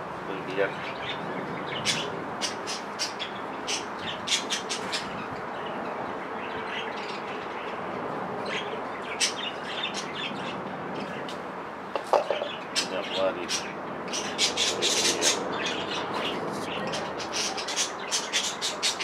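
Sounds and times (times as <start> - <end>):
outdoor background rush: 0.0 - 19.0
small birds chirping: 0.3 - 19.0.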